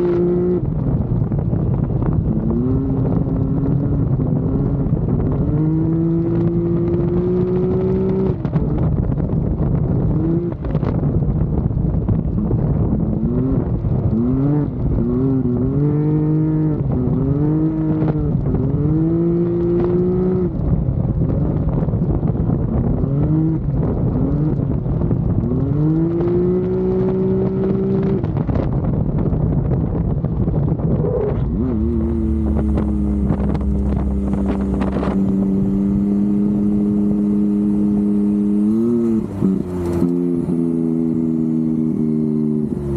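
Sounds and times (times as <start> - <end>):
engine revving under acceleration: 0.0 - 11.2, 12.3 - 29.0, 29.7 - 42.9
wind and road rush: 0.0 - 42.9.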